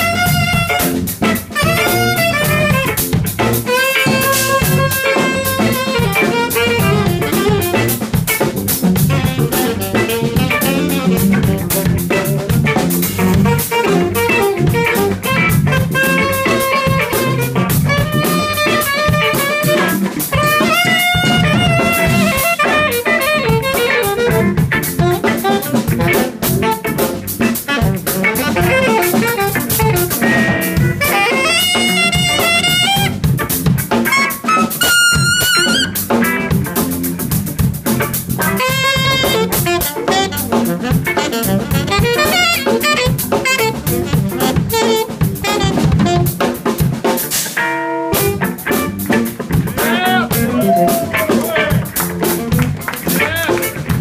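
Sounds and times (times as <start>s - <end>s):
saxophone solo: 0.0s - 36.8s, 38.0s - 46.6s, 47.6s - 54.0s
bass: 0.0s - 54.0s
busy drumming: 0.0s - 54.0s
electric guitar: 0.0s - 54.0s.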